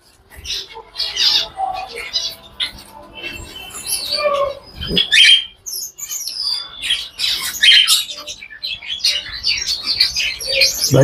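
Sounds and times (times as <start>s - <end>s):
finches chirping: 0.3s - 11.0s.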